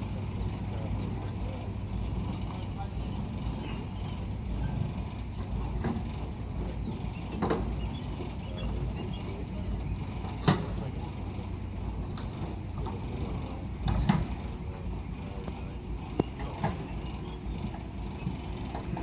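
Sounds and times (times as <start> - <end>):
tow tractor low rumble: 0.0 - 19.0.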